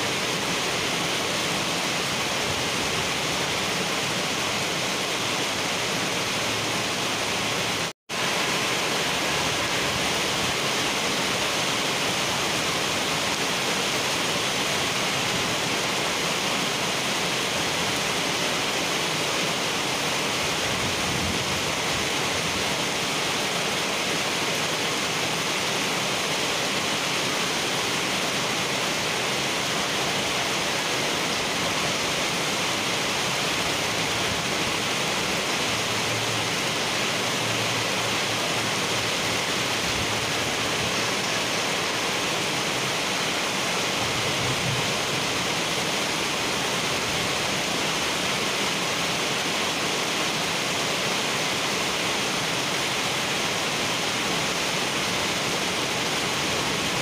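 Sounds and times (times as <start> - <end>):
heavy rain on asphalt: 0.0 - 57.0.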